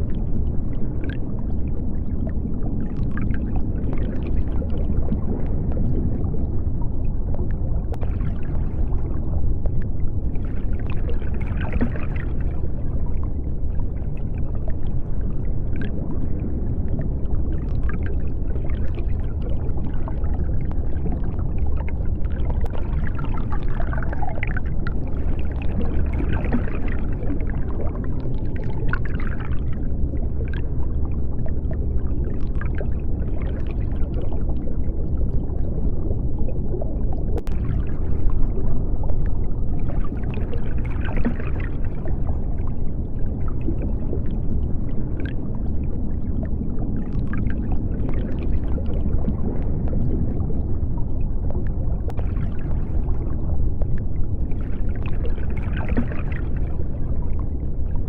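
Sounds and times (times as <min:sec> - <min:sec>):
bubbling: 0:00.0 - 0:58.0
deep underwater rumble: 0:00.0 - 0:58.0.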